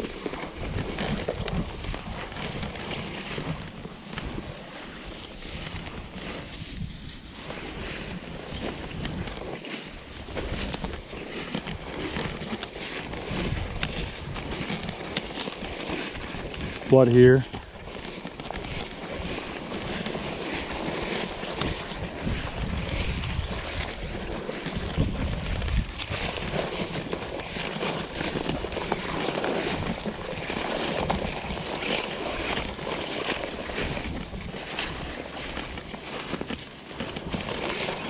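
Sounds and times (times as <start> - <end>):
dry brush rustling against legs: 0.0 - 38.0
wind rumbling on microphone: 0.0 - 38.0.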